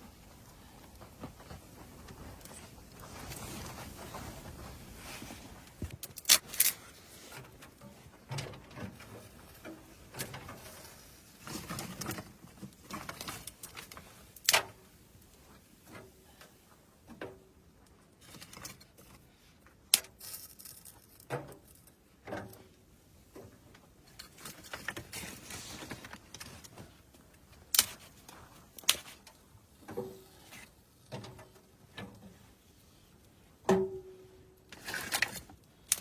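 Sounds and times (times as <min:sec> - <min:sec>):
rustling: 0:00.0 - 0:16.8, 0:20.2 - 0:33.6.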